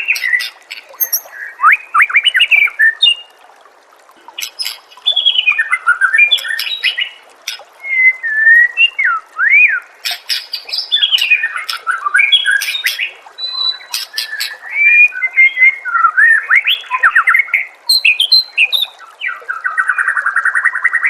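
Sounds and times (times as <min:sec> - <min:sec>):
bird singing whistled phrases: 0:00.0 - 0:03.3, 0:04.4 - 0:20.1.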